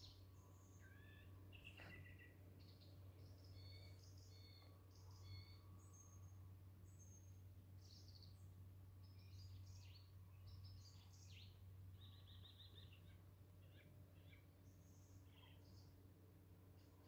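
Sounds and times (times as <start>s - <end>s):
bird trill: 0.0s - 8.4s, 9.1s - 15.9s
low steady hum: 0.0s - 17.0s
songbirds singing: 0.0s - 17.0s.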